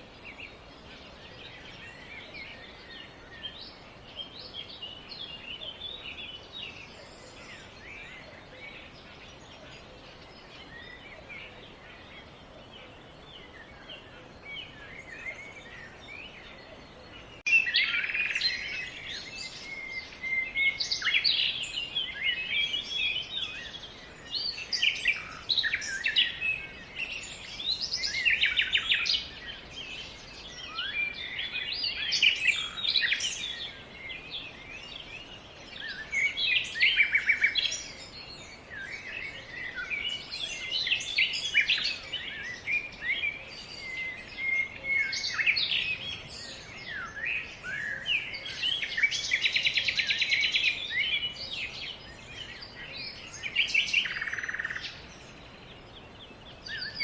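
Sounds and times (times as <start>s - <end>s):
birds chirping and warbling: 0.0s - 57.0s.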